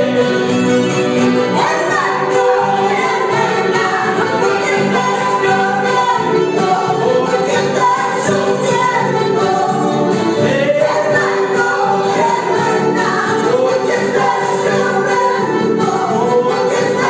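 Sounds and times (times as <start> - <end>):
accordion: 0.0 - 17.0
strummed acoustic guitar: 0.0 - 17.0
woman and men singing: 0.0 - 17.0.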